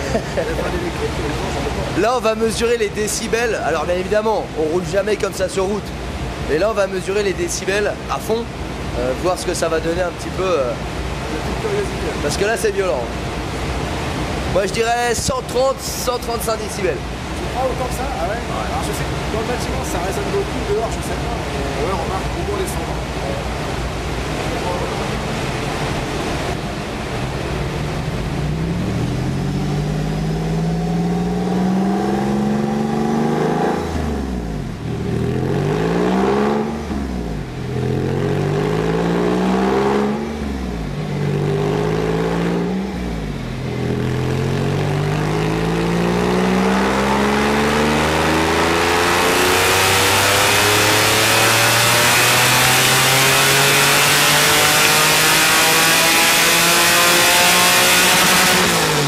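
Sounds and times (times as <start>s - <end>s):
car engine revving at full throttle: 0.0s - 59.0s.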